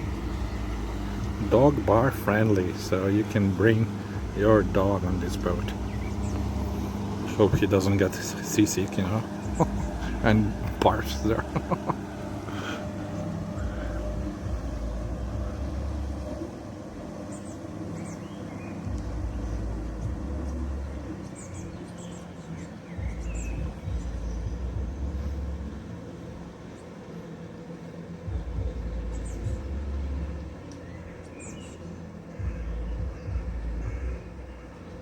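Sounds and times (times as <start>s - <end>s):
small birds chirping: 0.0s - 35.0s
wind buffeting microphone: 0.0s - 35.0s.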